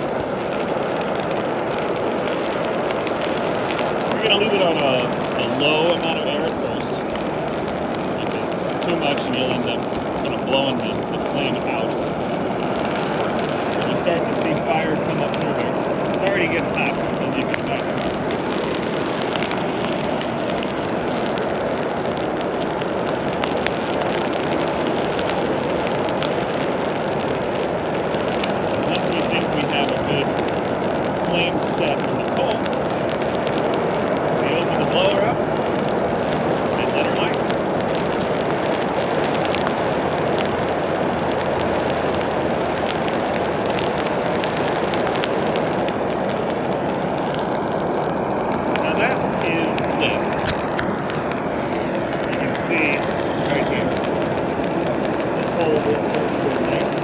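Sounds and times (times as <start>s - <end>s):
burning charcoal crackling: 0.0s - 57.0s
forge blower rushing air: 0.0s - 57.0s.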